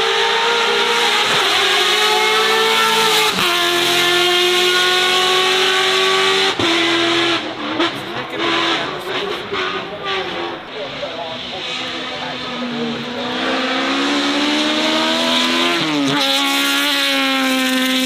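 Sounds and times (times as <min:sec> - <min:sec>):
racing car engine accelerating: 0:00.0 - 0:18.0.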